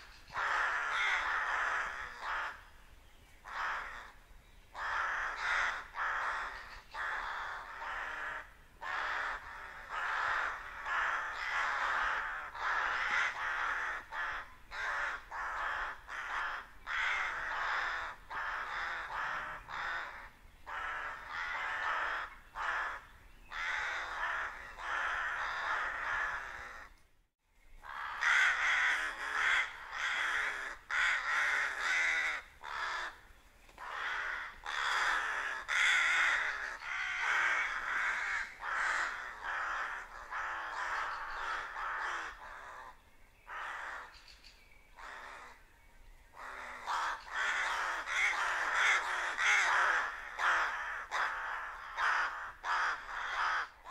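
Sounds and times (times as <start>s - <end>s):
flock of rooks cawing: 0.0s - 2.8s, 3.4s - 27.0s, 27.8s - 44.3s, 45.0s - 45.6s, 46.3s - 53.9s.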